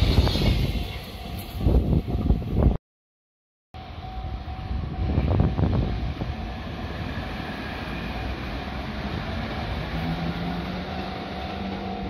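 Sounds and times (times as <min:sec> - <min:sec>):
train rumbling past: 0:00.0 - 0:02.8, 0:03.8 - 0:12.0.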